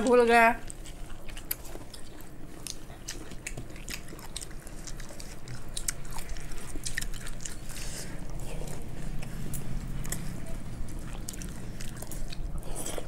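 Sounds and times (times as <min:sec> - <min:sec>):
people chewing with smacking clicks: 0:00.0 - 0:13.0.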